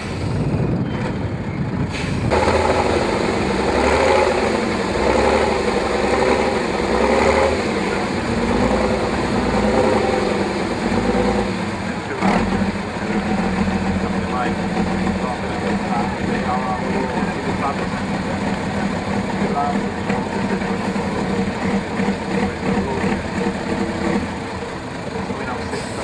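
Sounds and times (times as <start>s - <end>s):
truck engine labouring: 0.0s - 26.0s.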